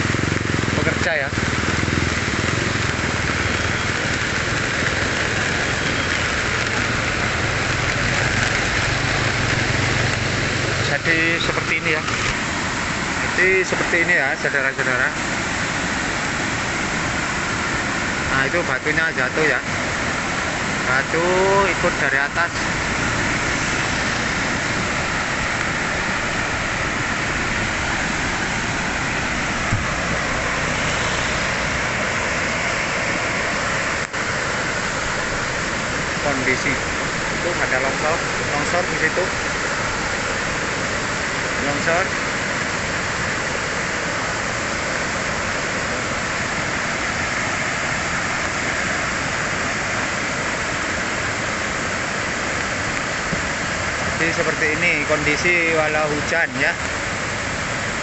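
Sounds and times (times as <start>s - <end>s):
heavy rain pouring: 0.0s - 58.0s
runoff water rushing: 0.0s - 58.0s.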